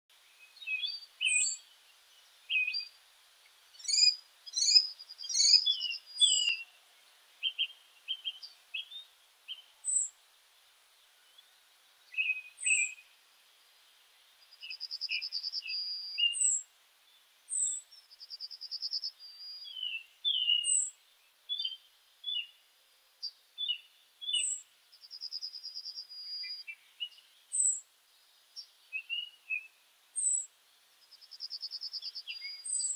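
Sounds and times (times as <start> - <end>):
songbirds singing and calling: 0.1 - 32.9.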